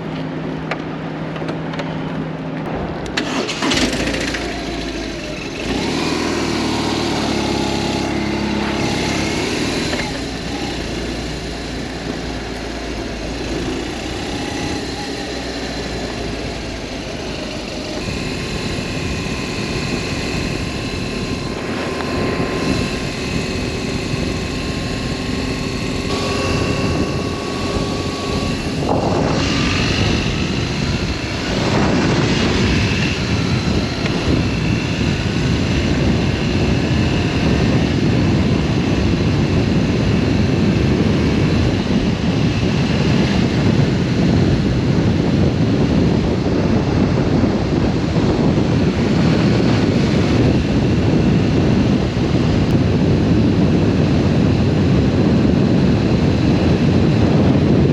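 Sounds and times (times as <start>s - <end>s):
wind rushing over microphone: 0.0s - 57.9s
motorcycle engine running: 2.4s - 57.9s.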